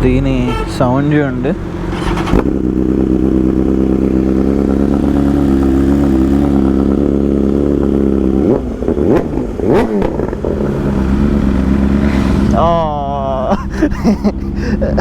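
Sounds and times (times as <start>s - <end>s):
motorbike engine idling and revving: 0.0s - 15.0s.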